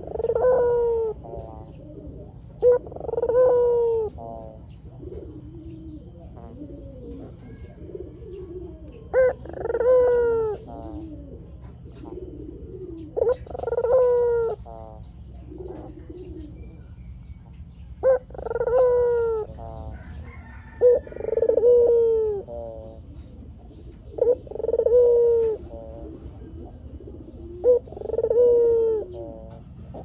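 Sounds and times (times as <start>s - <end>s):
dove cooing: 0.0s - 30.0s
steady low hum: 0.0s - 30.0s.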